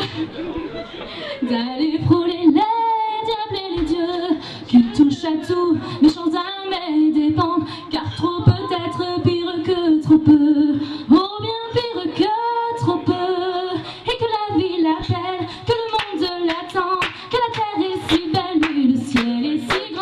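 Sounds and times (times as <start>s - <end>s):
woman singing a cappella: 1.4s - 20.0s.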